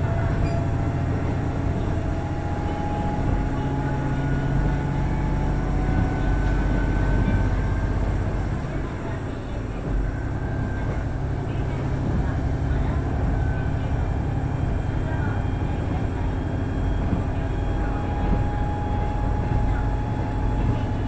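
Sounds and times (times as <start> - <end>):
diesel railcar engine drone: 0.0 - 21.0.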